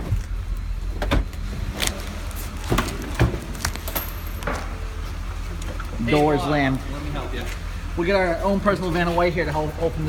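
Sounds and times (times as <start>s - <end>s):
idling engine hum: 0.0s - 10.0s.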